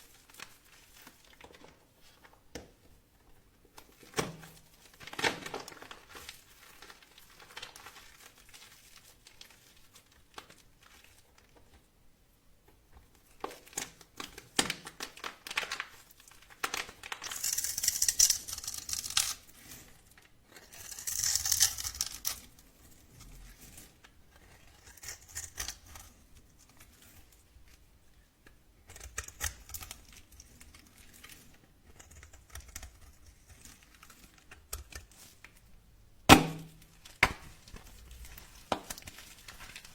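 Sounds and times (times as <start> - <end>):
dry crackling and crumbling: 3.7 - 11.8, 13.1 - 39.9.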